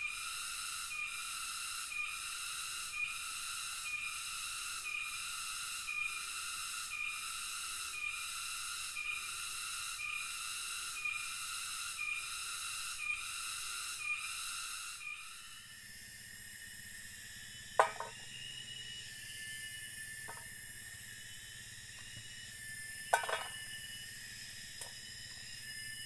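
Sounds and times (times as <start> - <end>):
cicadas buzzing: 0.0 - 26.0
insect drone: 0.0 - 26.0.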